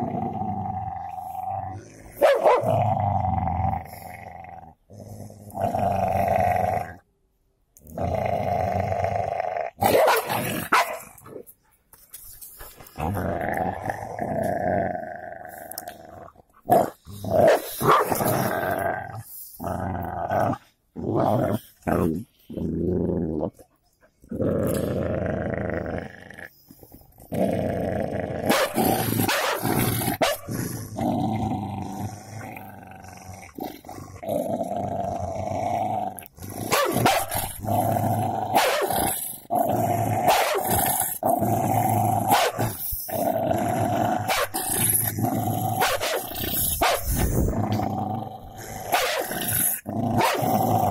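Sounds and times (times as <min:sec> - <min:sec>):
dogs growling: 0:00.0 - 0:07.0, 0:12.6 - 0:50.9.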